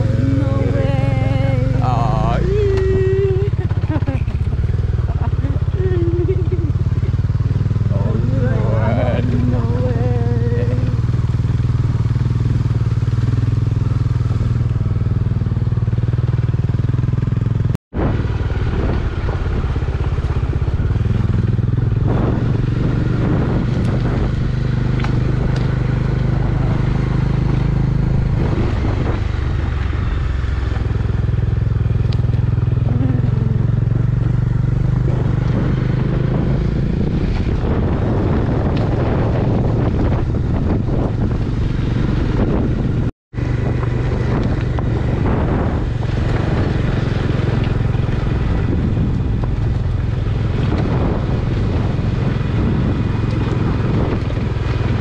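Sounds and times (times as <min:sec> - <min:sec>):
motorcycle engine running: 0:00.0 - 0:55.0
road and rushing air noise: 0:00.0 - 0:55.0.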